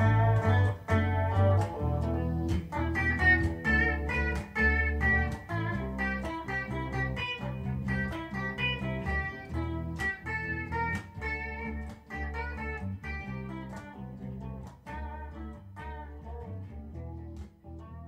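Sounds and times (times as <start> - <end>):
plucked guitar notes: 0.0 - 18.0
steady bass line: 0.0 - 18.0.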